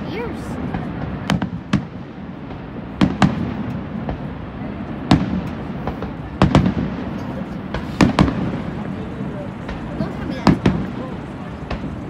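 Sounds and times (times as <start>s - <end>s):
fireworks bursting in sharp bangs: 0.0s - 12.0s
steady background noise: 0.0s - 12.0s.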